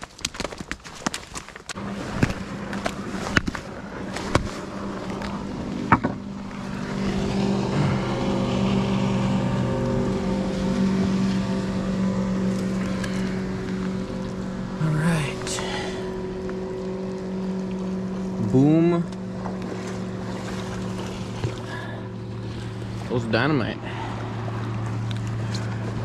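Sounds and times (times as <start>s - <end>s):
motorboat engine running: 1.7s - 26.0s.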